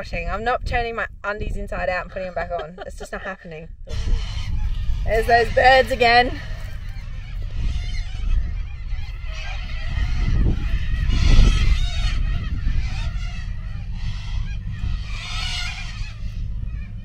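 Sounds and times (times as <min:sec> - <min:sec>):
steady low rumble: 0:00.0 - 0:17.0
flock of birds calling: 0:02.0 - 0:17.0.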